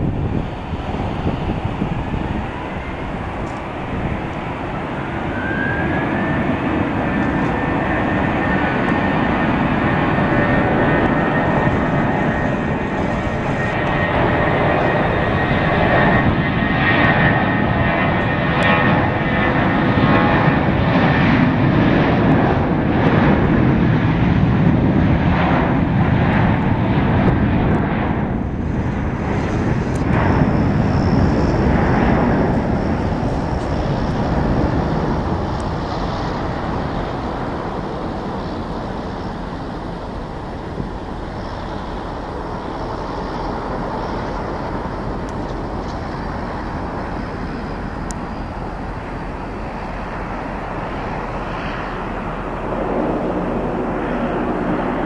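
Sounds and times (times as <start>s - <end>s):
jet engine roar with whine: 0.0s - 55.0s.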